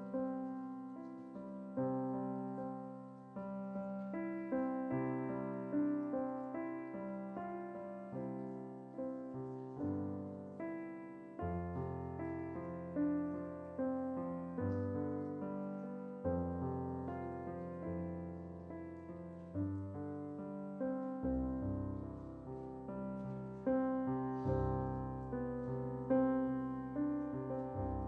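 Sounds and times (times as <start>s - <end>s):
soft electric piano chords: 0.0s - 28.0s.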